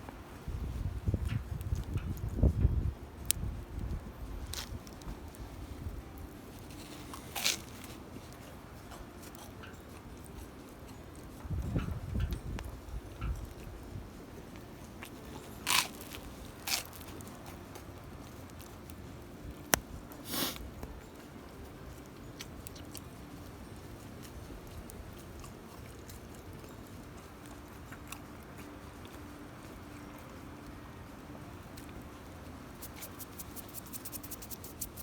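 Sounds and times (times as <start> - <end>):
faint steady background noise: 0.0 - 35.0.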